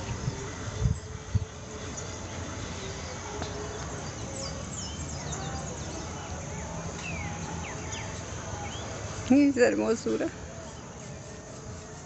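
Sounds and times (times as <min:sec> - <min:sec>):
birds chirping: 0:00.0 - 0:12.0
low background noise: 0:00.0 - 0:12.0.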